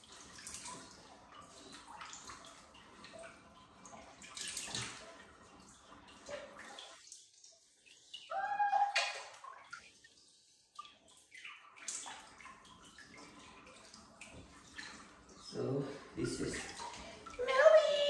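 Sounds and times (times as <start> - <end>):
water dripping in bathtub: 0.0 - 18.0.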